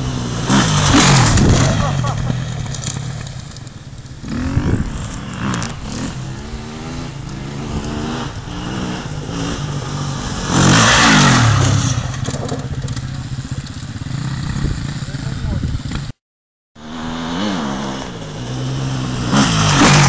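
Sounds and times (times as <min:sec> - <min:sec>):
motorcycle engine revving: 0:00.0 - 0:16.2, 0:16.8 - 0:20.0.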